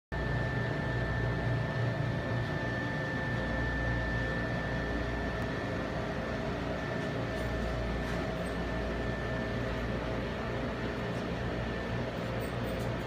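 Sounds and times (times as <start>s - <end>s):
low mechanical hum: 0.1s - 13.0s.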